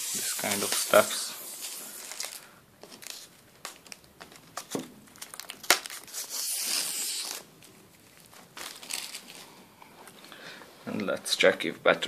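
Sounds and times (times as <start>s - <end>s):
plastic film peeling crinkle: 0.1s - 10.3s.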